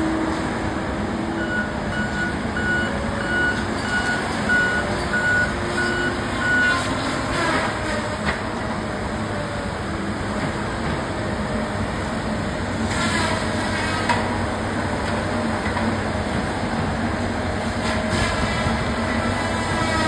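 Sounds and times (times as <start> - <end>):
diesel engine and hydraulics: 0.0 - 20.0.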